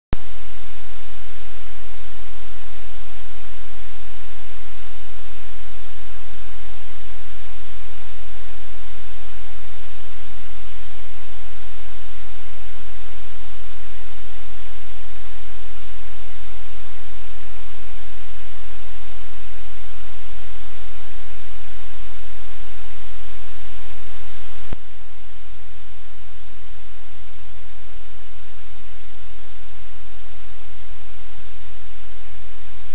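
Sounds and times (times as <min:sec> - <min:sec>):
low electrical hum: 0:00.2 - 0:32.9
static hiss: 0:00.2 - 0:32.9.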